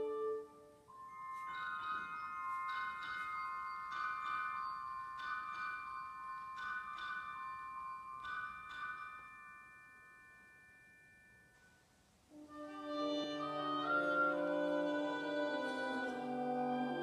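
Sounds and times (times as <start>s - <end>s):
ringing mallet percussion notes: 0.9s - 17.0s.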